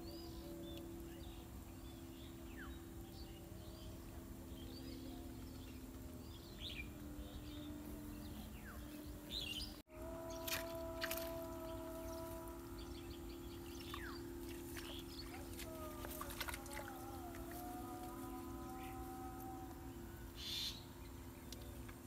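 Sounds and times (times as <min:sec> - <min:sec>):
birds chirping: 0:00.0 - 0:22.0
steady low drone: 0:00.0 - 0:22.0.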